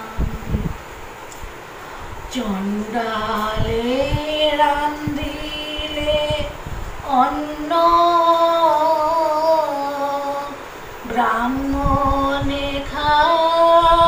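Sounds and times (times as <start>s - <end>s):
woman singing: 2.3s - 14.0s.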